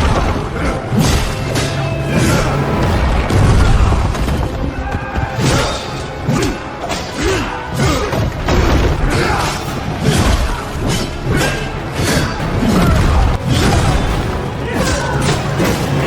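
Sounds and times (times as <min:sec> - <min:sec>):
crashing and booming impacts: 0:00.0 - 0:06.3, 0:08.1 - 0:16.0
music: 0:00.0 - 0:16.0.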